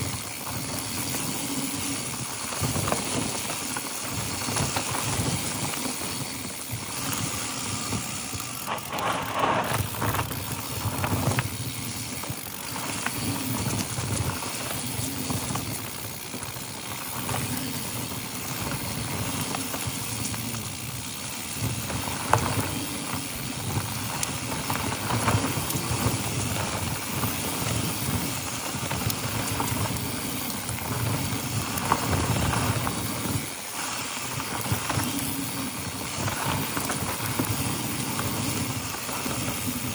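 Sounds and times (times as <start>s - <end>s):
bike rattling over bumps: 0.0s - 39.9s
bike tyres rolling on dirt: 0.0s - 39.9s.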